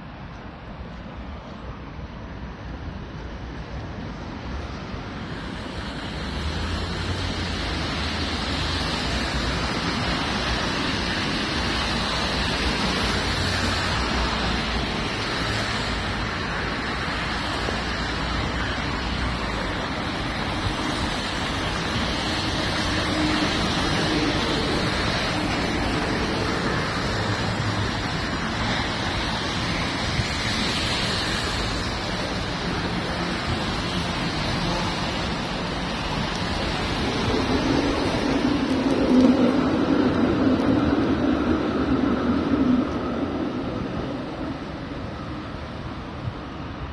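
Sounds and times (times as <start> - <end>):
rain: 0.0 - 46.9
tyres hissing on wet road: 0.0 - 46.9.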